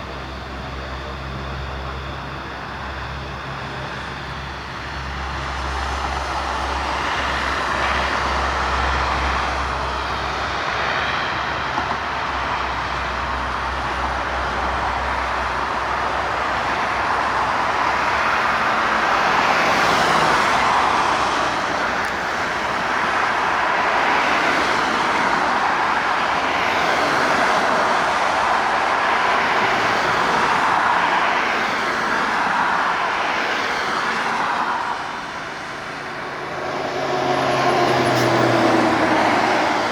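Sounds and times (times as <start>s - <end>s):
turboprop engines and propellers: 0.0s - 39.9s.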